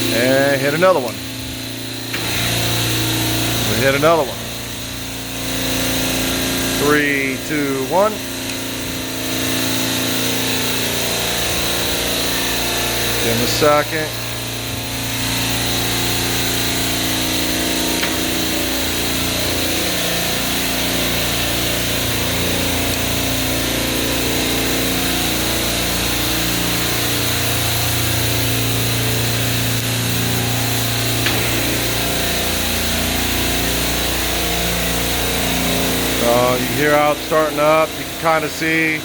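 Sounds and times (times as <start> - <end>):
refrigeration compressors droning: 0.0 - 39.0.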